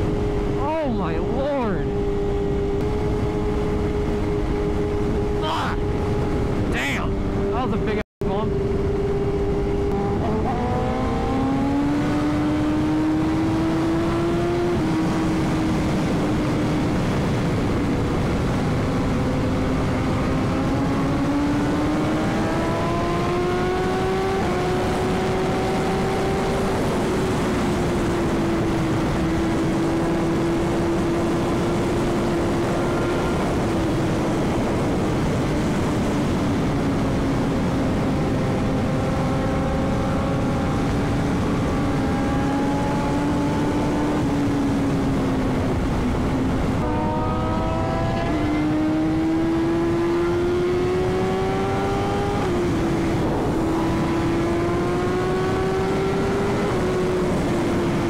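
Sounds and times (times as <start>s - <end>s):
motorcycle engine cruising: 0.0s - 58.0s
wind noise rushing: 0.0s - 58.0s.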